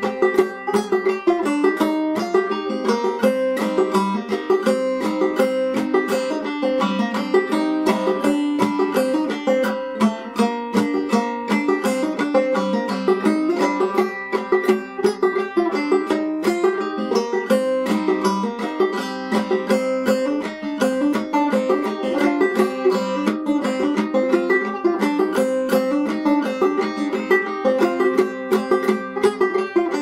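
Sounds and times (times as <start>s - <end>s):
banjo played clawhammer style: 0.0s - 30.0s.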